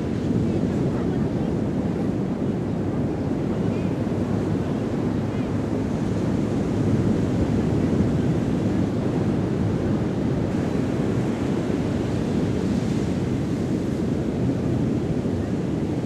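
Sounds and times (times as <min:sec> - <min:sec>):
ocean waves washing onto beach: 0:00.0 - 0:16.0.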